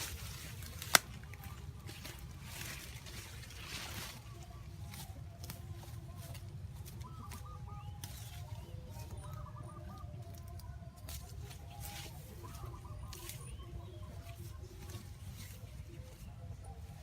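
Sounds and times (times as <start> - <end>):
birds calling: 0.0 - 17.0
steady low rumble: 0.0 - 17.0.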